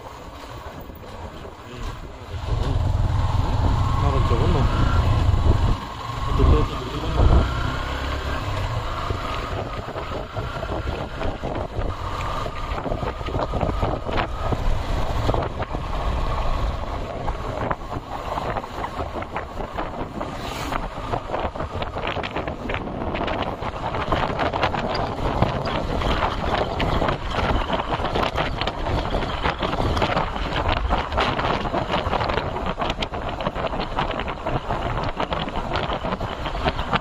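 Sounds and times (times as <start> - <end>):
vehicle rumble: 0.0 - 37.0
wind buffeting microphone: 0.0 - 37.0.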